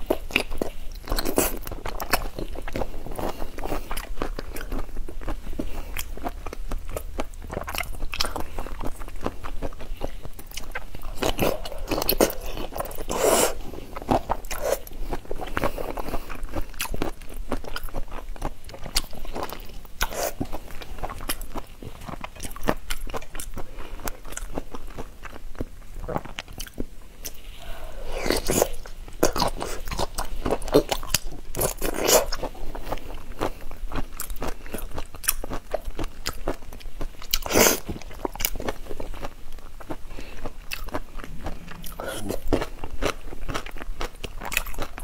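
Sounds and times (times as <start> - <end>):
wet chewing: 0.0 - 45.0.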